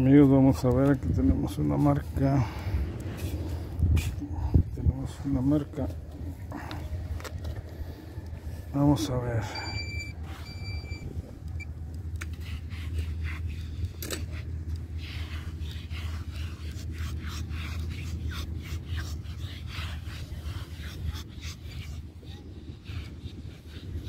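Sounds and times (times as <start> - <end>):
low rumble: 0.9 - 23.8.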